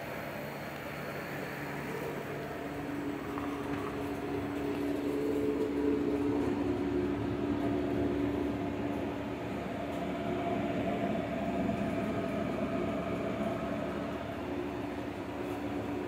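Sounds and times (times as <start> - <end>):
machine hum with droning tone: 0.0 - 16.0.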